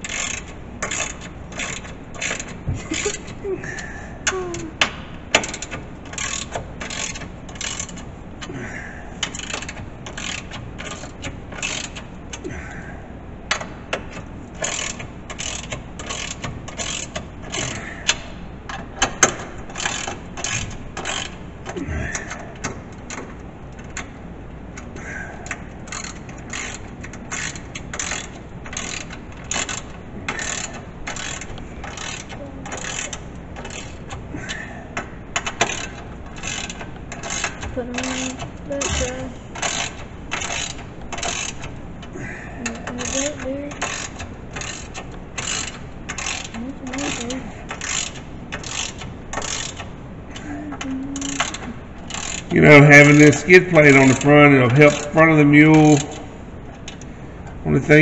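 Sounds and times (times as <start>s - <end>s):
socket ratchet clicking: 0.0s - 3.4s, 4.3s - 8.1s, 9.2s - 12.4s, 13.5s - 24.1s, 24.8s - 34.2s, 35.0s - 50.5s, 51.2s - 57.1s.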